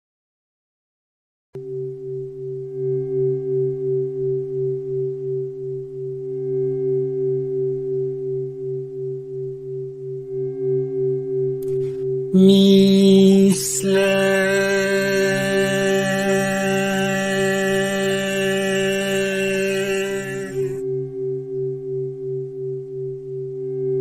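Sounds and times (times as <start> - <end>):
electronic drone of pure tones: 1.6 - 21.2.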